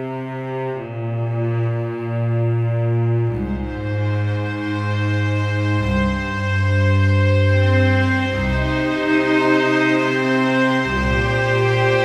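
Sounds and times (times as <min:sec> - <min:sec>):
low sustained background music: 0:00.0 - 0:12.0.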